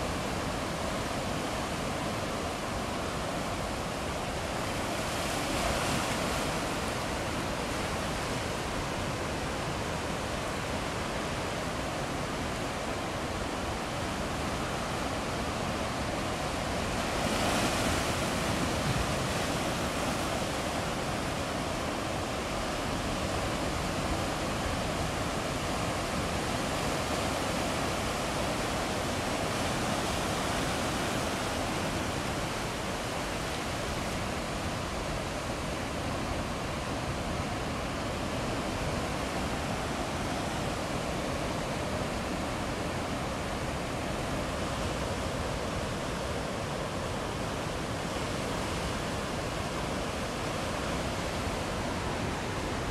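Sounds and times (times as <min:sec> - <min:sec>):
ocean surf rushing: 0:00.0 - 0:52.9.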